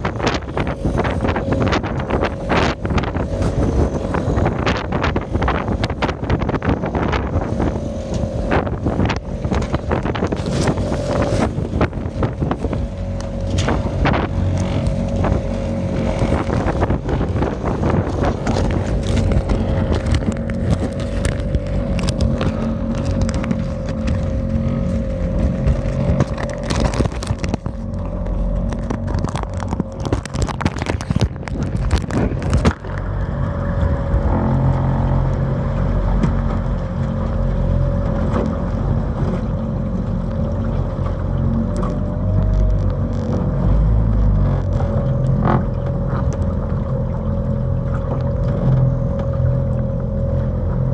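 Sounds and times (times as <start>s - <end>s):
motor drone with whine: 0.0s - 50.9s.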